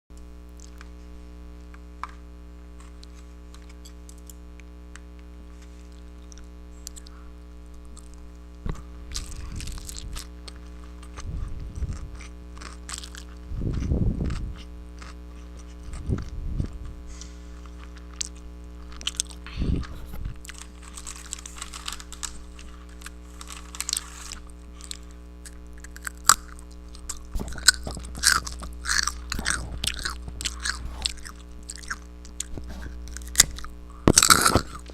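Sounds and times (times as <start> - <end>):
steady low hum: 0.1 - 34.9
chewing and biting: 2.8 - 34.9
sharp crunches: 5.6 - 34.9.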